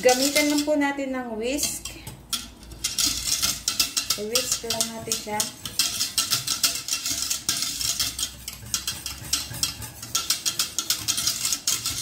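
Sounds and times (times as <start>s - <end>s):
whisk clinking and scraping a pot: 0.0s - 12.0s.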